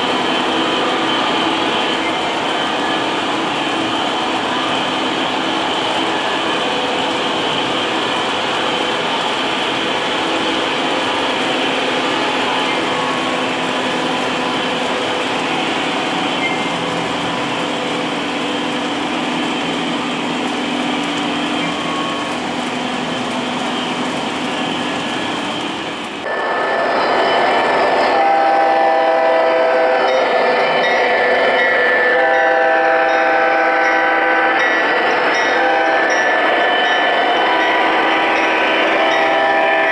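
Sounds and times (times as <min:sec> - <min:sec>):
multi-tone train horn blasts: 0:00.0 - 0:24.2, 0:26.2 - 0:39.9
model train rolling rumble: 0:00.0 - 0:39.9.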